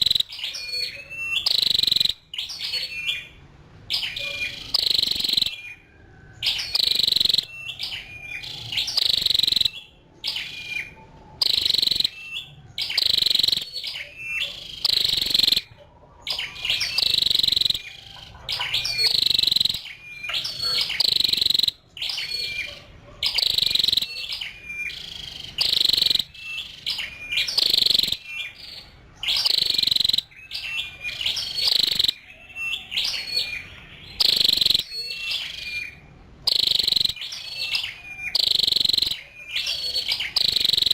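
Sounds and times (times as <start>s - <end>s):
bird high-pitched calls: 0.0s - 40.9s.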